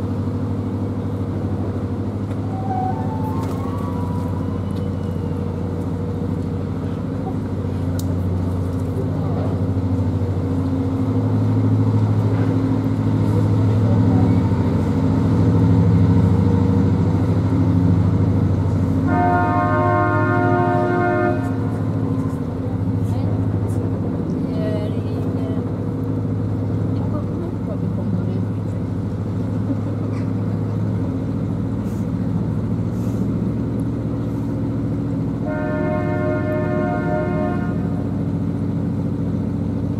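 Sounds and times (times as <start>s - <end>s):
diesel boat engine throbbing: 0.0s - 39.9s.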